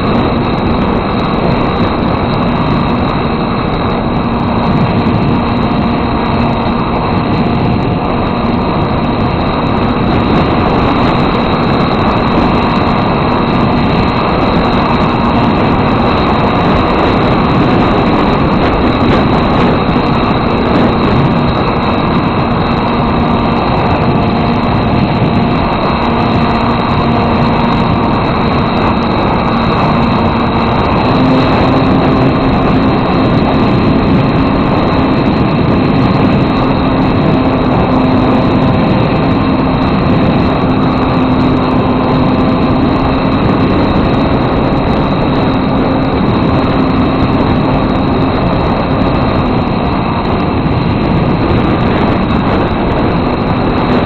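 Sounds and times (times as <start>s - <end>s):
model airplane motor droning: 0.0s - 54.0s.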